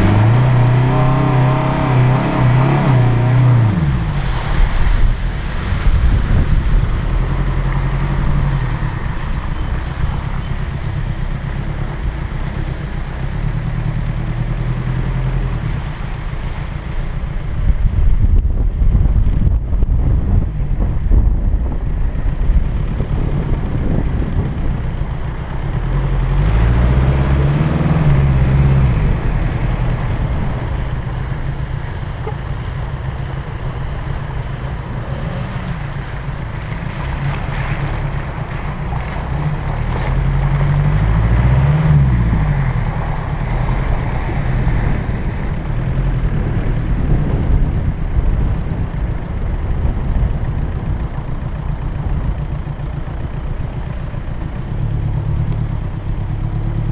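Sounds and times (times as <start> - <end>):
wind buffeting microphone: 0.0 - 12.3, 16.8 - 56.9
car engine revving: 0.0 - 17.6, 22.1 - 56.9.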